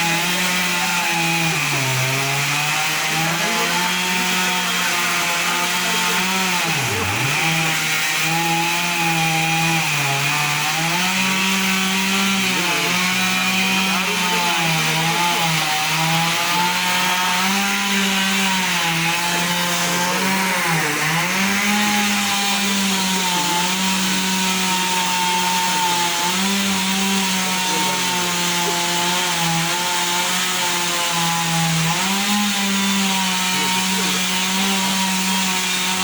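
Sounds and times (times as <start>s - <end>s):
chainsaw cutting a tree: 0.0s - 36.0s.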